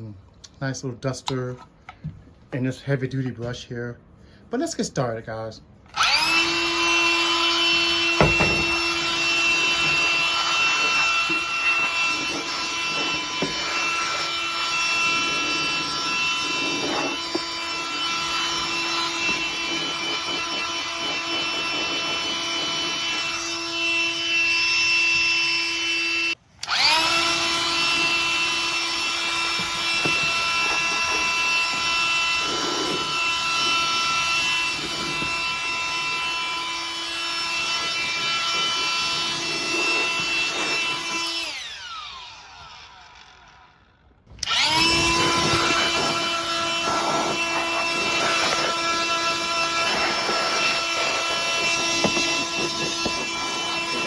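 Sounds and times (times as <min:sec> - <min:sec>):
blower motor whining: 0:05.9 - 0:54.0.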